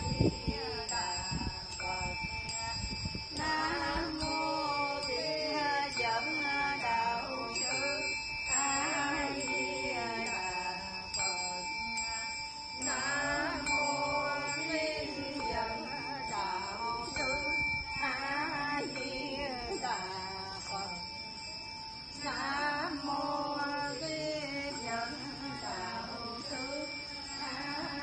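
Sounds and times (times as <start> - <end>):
voices chanting melodically: 0.0 - 28.0.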